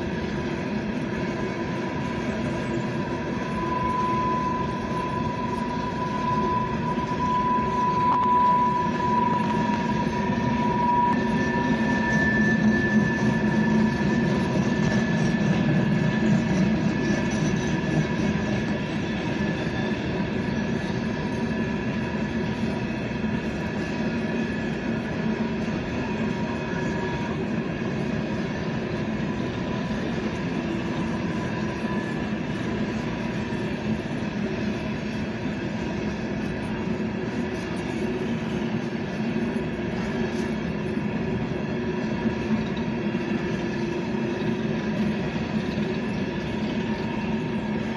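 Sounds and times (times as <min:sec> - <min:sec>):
faint high whine: 0:00.0 - 0:47.9
train rumbling on rails: 0:00.0 - 0:47.9.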